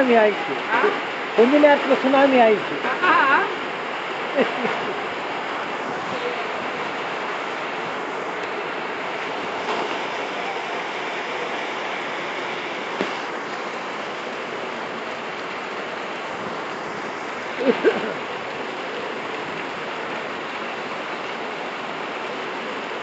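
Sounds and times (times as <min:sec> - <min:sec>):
heavy rain on pavement: 0:00.0 - 0:23.0
rainwater running: 0:00.0 - 0:23.0.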